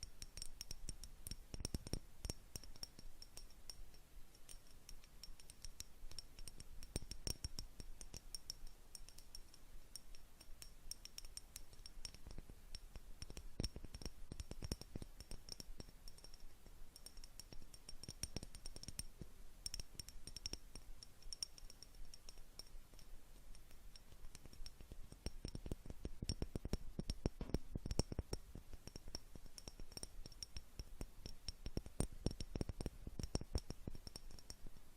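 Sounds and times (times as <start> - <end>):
light taps on a glass jar: 0.0 - 34.9.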